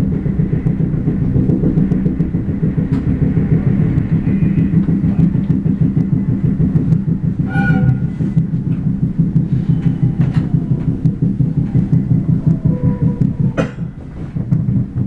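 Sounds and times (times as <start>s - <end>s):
train bogie knocking rumble: 0.0s - 15.0s.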